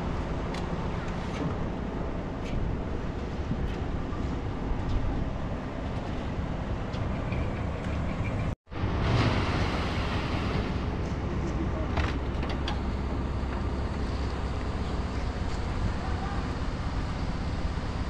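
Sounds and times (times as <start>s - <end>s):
construction machinery running: 0.0s - 18.0s.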